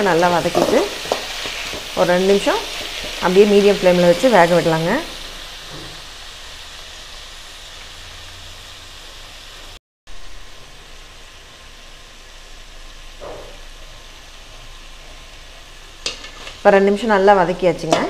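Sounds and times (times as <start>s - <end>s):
leaves and onion sizzling in oil: 0.0s - 18.0s.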